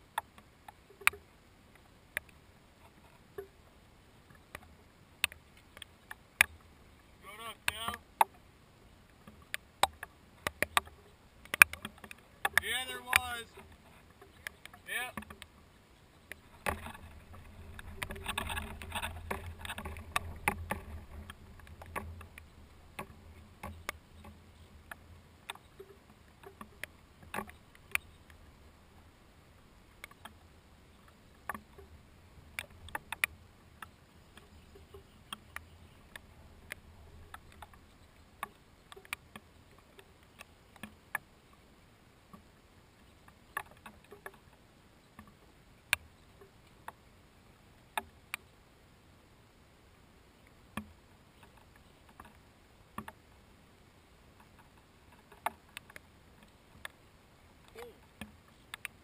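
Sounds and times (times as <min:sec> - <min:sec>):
raindrops ticking on camera housing: 0:00.1 - 0:08.4, 0:09.0 - 0:47.1, 0:54.4 - 0:59.0.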